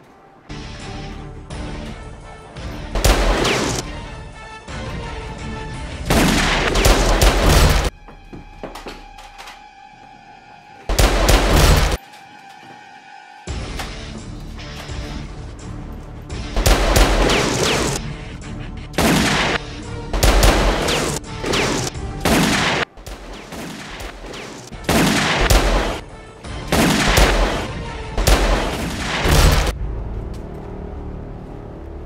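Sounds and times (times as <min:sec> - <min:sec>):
background music: 0:00.0 - 0:32.0.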